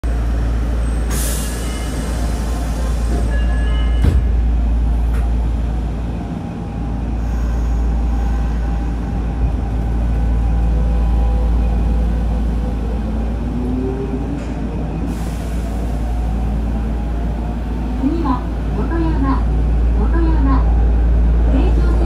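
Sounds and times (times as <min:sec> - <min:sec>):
low rumble of moving train car: 0:00.0 - 0:22.0.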